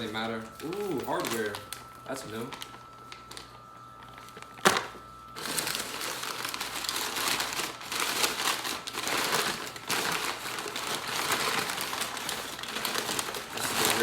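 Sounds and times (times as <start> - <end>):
packing material crinkling: 0.0 - 14.0.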